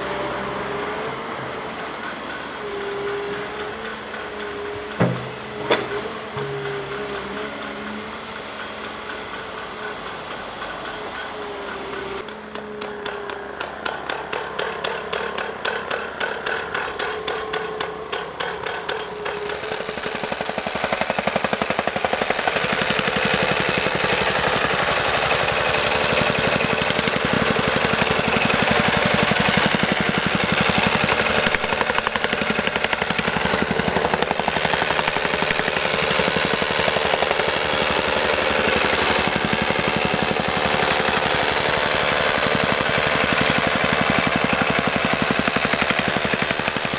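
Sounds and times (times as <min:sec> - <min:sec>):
soil compactor pounding: 0:00.0 - 0:46.9.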